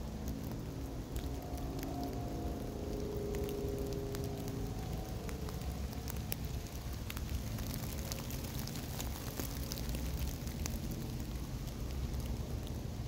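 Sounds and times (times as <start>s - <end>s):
low rumble: 0.0s - 13.0s
steady rain: 0.0s - 13.0s.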